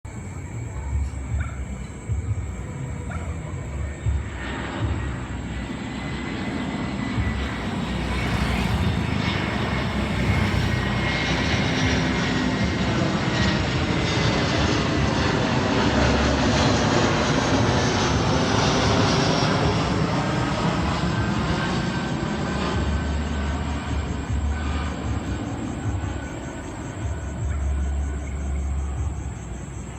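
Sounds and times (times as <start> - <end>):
jet airliner flying past: 0.1 - 29.9.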